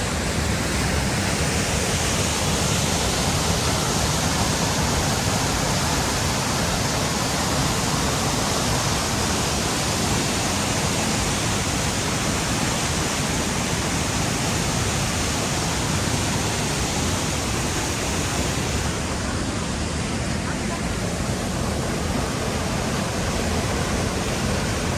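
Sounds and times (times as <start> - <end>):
mountain stream rushing: 0.0 - 24.9.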